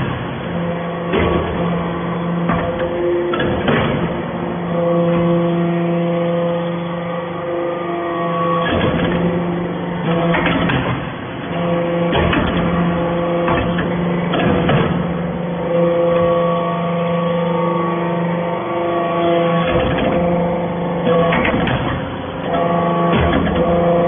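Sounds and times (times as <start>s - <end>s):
hydraulic pump humming: 0.0s - 24.0s.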